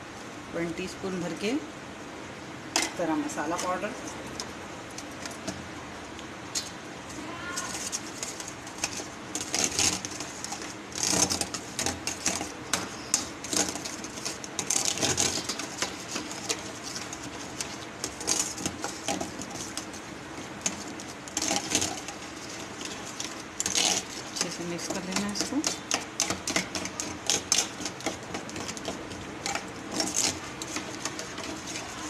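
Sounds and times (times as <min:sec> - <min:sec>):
metal spoon stirring in steel bowl: 0:02.8 - 0:05.5, 0:06.6 - 0:32.0.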